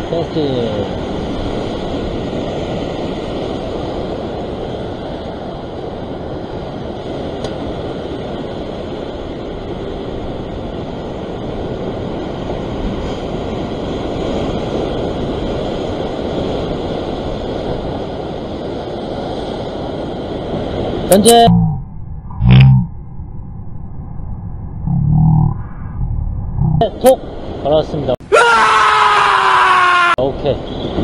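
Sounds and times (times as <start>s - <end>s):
ocean surf breaking: 0.0s - 21.7s, 26.8s - 31.0s
wind rumbling on microphone: 0.0s - 28.2s.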